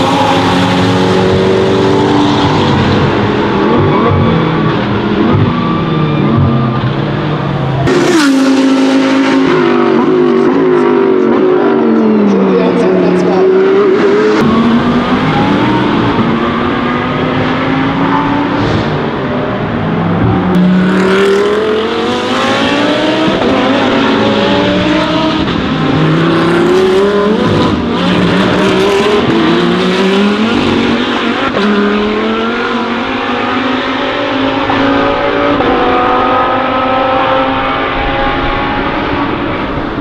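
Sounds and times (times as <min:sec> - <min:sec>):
race car engines shifting gears: 0:00.0 - 0:40.0.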